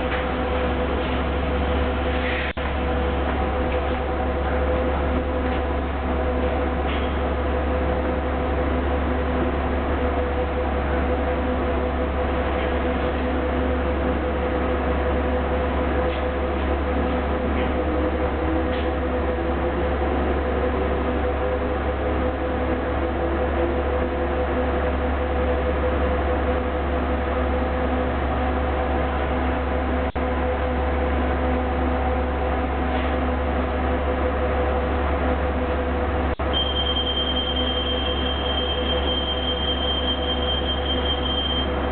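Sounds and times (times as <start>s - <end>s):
bus engine and air-conditioning hum: 0.0s - 41.9s.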